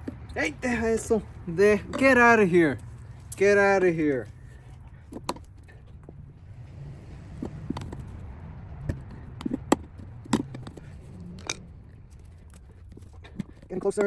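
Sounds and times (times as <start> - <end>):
tire spoons clicking on wheel rim: 0.0 - 14.0.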